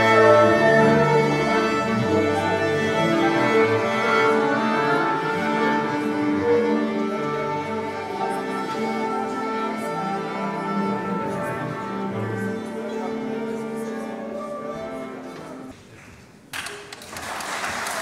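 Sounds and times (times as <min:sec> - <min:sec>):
orchestral strings sustained notes: 0:00.0 - 0:15.7.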